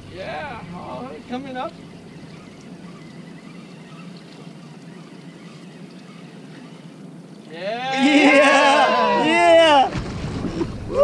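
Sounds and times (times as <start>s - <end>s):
boat background noise: 0.0s - 11.0s.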